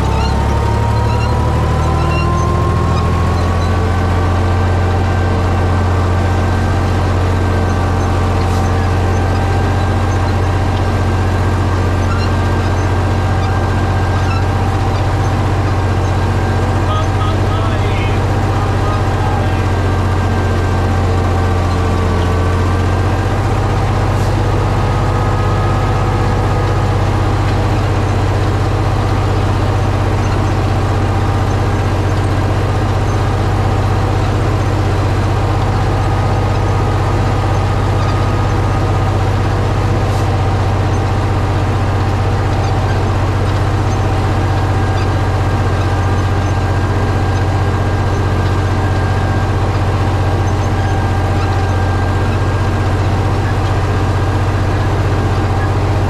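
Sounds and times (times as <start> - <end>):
tractor diesel engine droning: 0.0 - 56.0.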